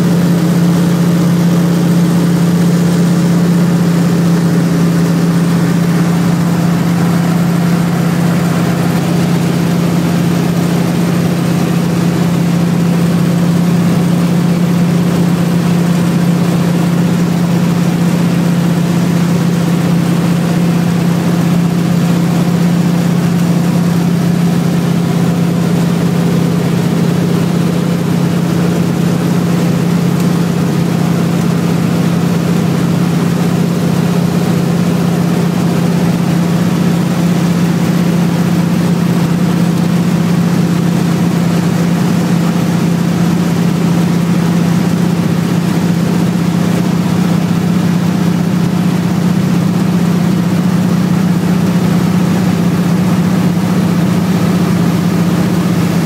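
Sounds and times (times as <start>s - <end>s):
propeller plane engine hum: 0.0s - 56.0s.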